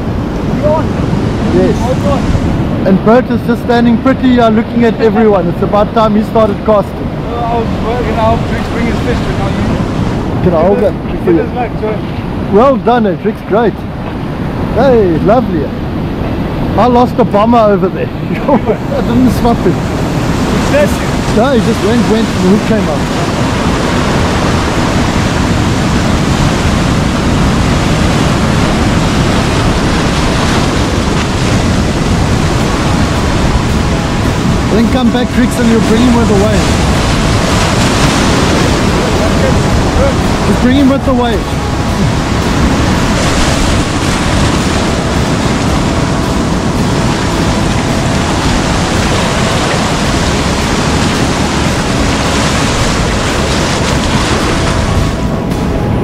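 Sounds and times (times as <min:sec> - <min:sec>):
surf breaking over rocks: 0:00.0 - 0:13.2, 0:13.9 - 0:56.0
wind buffeting microphone: 0:00.0 - 0:56.0.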